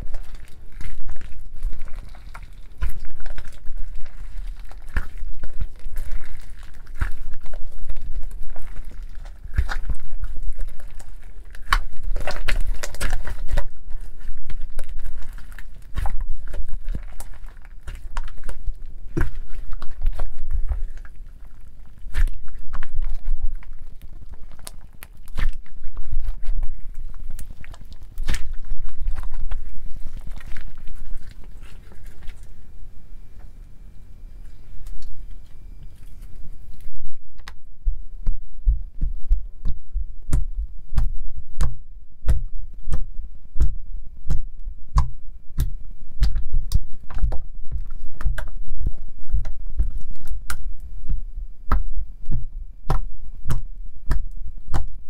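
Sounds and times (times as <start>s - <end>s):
slime squishing and crackling: 0.0s - 55.0s.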